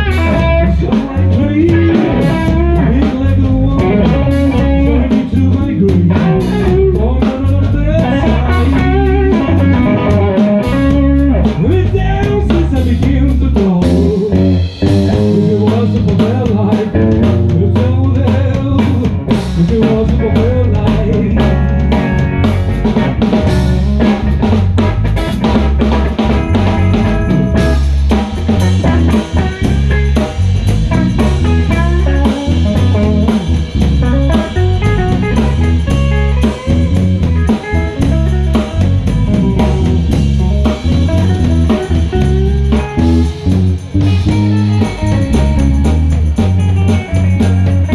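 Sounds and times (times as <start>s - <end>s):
bass guitar: 0.0s - 47.9s
drum kit: 0.0s - 47.9s
electric guitar: 0.0s - 47.9s.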